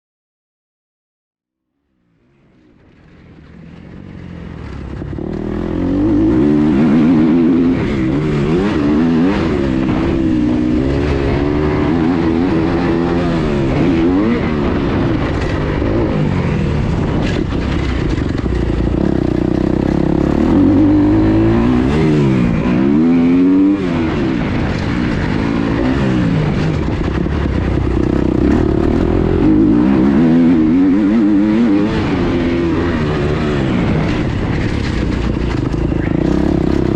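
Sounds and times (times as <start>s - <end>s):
motocross bike engine revving: 4.6s - 36.9s.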